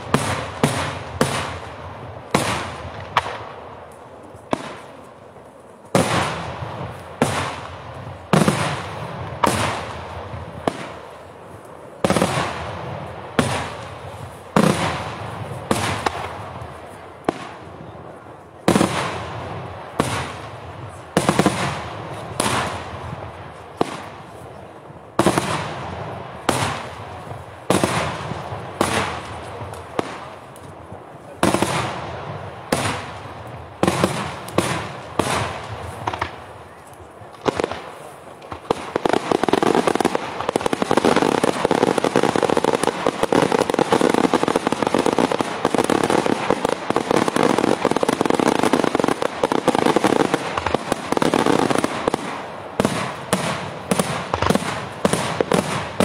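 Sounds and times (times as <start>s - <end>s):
fireworks bursting with loud bangs: 0.0s - 56.0s.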